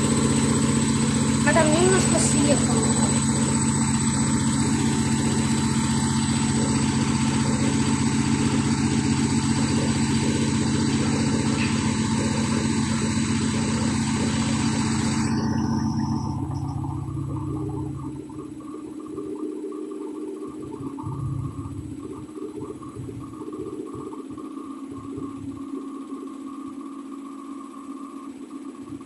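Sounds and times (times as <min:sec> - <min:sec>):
washing machine spin cycle: 0:00.0 - 0:29.0.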